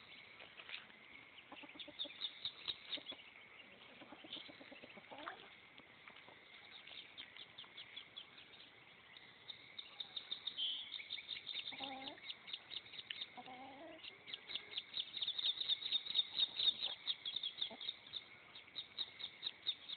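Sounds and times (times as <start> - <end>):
ducklings peeping: 0.0 - 19.9.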